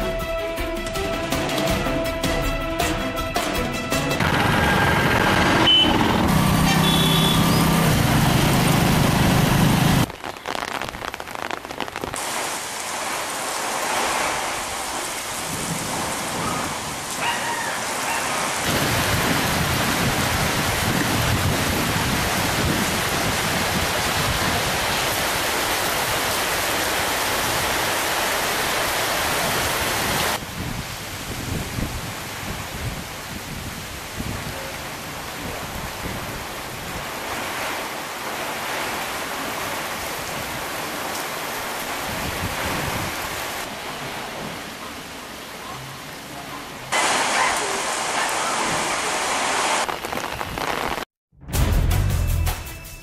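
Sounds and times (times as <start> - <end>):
heavy rain falling: 3.6 - 51.1.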